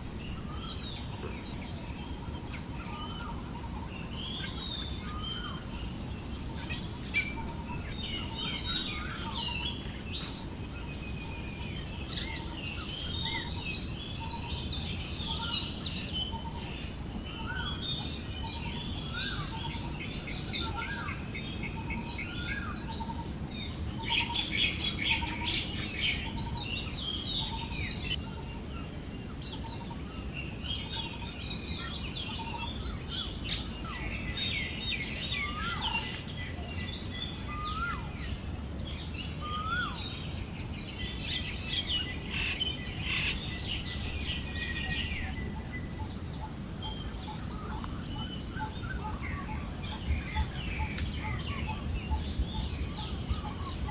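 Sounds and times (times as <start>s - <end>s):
birds chirping: 0.0s - 53.9s
low wind: 0.0s - 53.9s.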